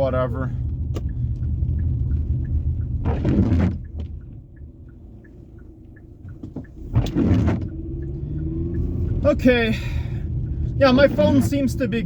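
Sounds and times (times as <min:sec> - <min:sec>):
car engine and road rumble: 0:00.0 - 0:12.0
quick steady ticking: 0:00.9 - 0:12.0.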